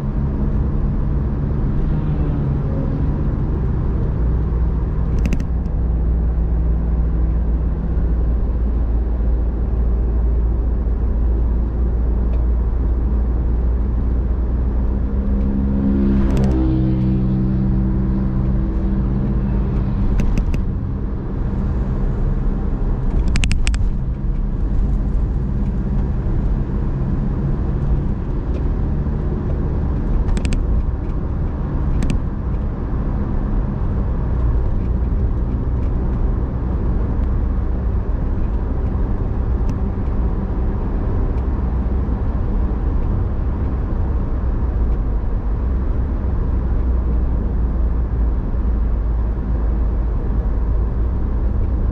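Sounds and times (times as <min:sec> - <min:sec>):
car engine hum: 0:00.0 - 0:51.9
road noise: 0:00.0 - 0:51.9.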